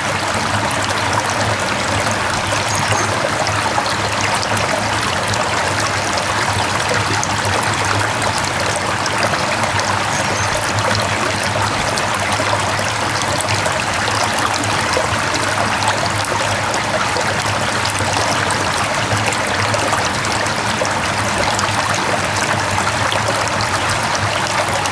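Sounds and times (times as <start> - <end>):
stream flowing over rocks: 0.0 - 24.9.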